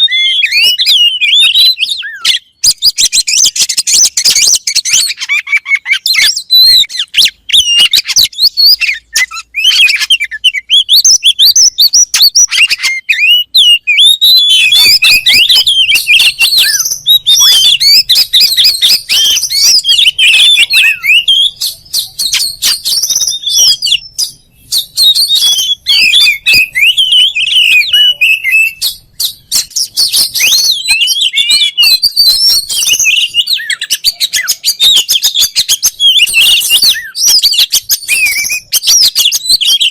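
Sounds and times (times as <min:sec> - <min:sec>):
bird song with whistles and clicks: 0:00.0 - 0:39.9.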